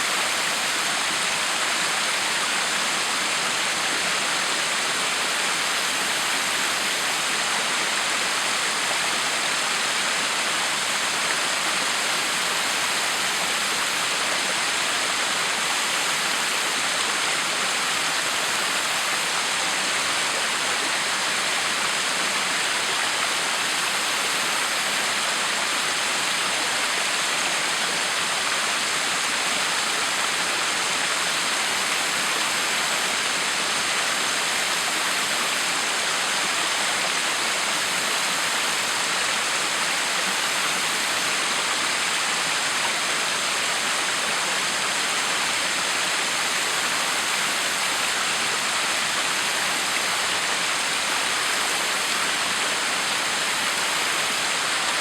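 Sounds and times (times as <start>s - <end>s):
waterfall pouring and splashing: 0.0s - 55.0s.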